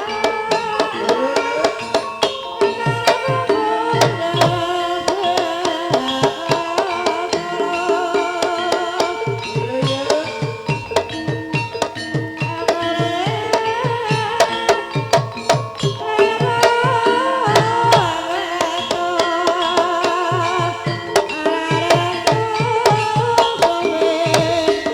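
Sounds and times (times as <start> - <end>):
struck percussion: 0.0 - 24.9
wavering bending melody: 0.0 - 24.9.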